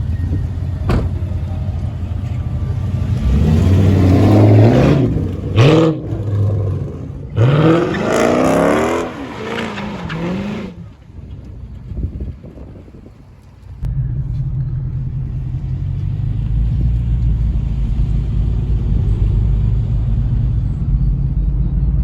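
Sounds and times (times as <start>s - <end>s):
car engine revving: 0.0s - 11.1s, 13.8s - 22.0s.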